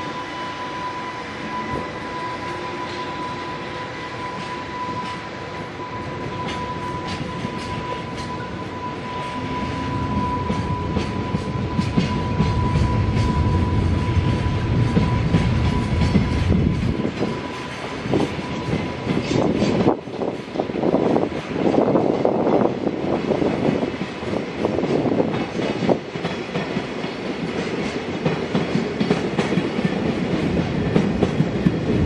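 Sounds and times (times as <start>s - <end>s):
train rolling rumble: 0.0s - 32.0s
train wheels clicking over rail joints: 4.1s - 32.0s.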